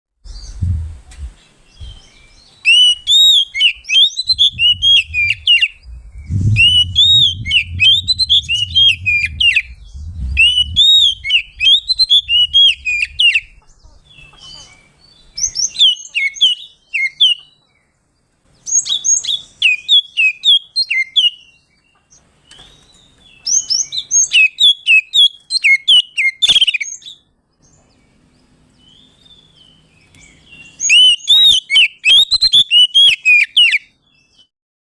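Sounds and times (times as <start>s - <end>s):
bird singing whistled notes: 1.7s - 13.6s, 15.1s - 17.5s, 18.7s - 21.8s, 22.5s - 27.8s, 28.8s - 34.5s.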